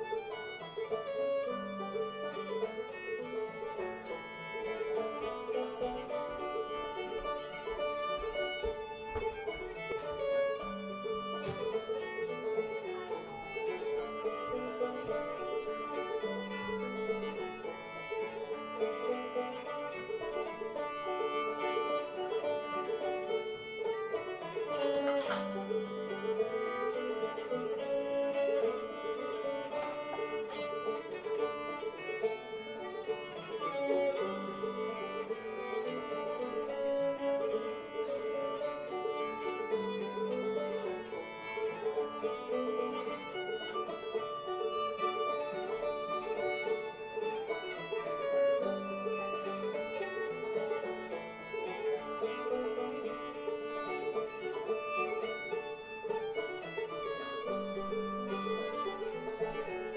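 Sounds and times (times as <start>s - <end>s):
banjo: 0.0s - 59.9s
fiddle: 0.0s - 59.9s.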